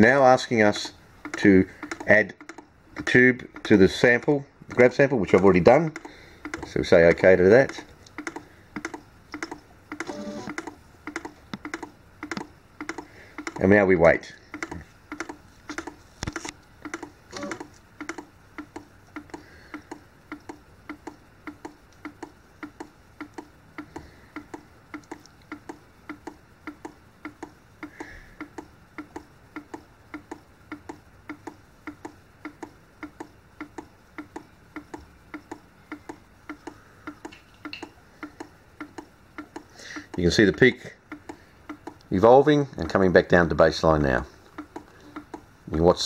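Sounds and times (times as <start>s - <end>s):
machine ticking: 0.7s - 13.7s, 14.5s - 16.0s, 16.8s - 42.1s, 44.5s - 45.5s.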